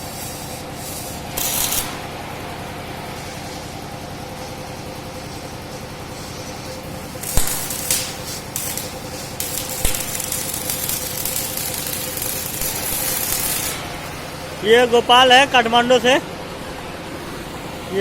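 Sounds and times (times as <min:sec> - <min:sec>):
electrical hum: 0:00.0 - 0:18.0
welding hissing and crackling: 0:00.0 - 0:18.0.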